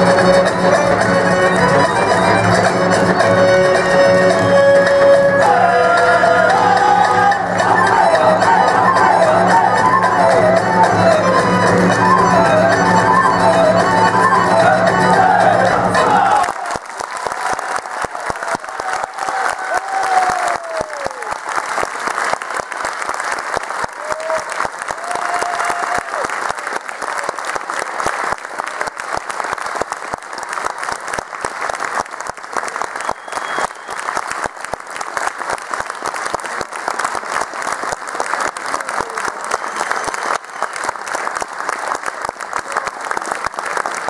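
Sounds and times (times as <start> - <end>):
audience applauding: 0.0 - 44.0.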